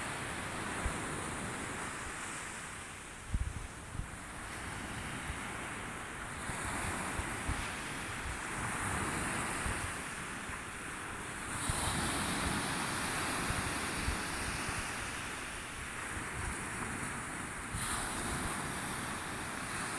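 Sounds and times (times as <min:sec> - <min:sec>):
sea waves washing in: 0:00.0 - 0:19.9
wind rumbling on microphone: 0:00.0 - 0:19.9.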